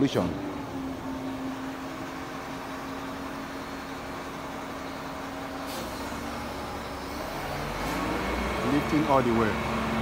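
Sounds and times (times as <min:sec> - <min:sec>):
crane engine and hydraulics drone: 0:00.0 - 0:10.0.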